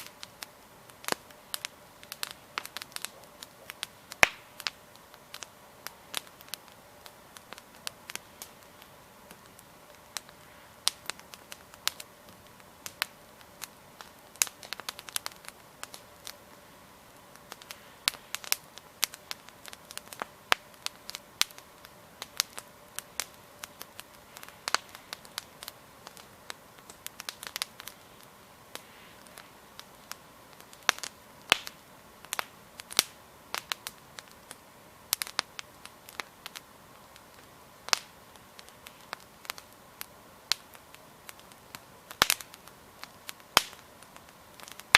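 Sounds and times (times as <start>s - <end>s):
campfire logs crackling: 0.0s - 44.9s
faint steady hiss: 0.0s - 44.9s.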